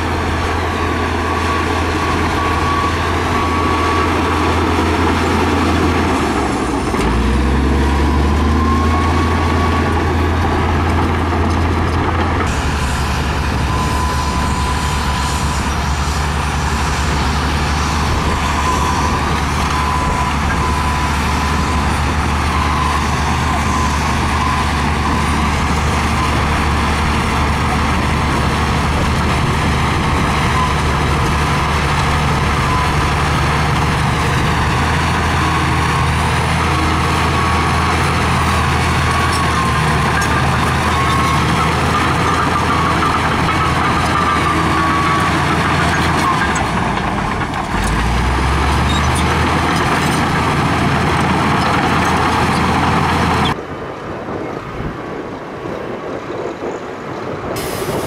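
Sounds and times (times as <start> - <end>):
bulldozer diesel engine running: 0.0 - 56.2.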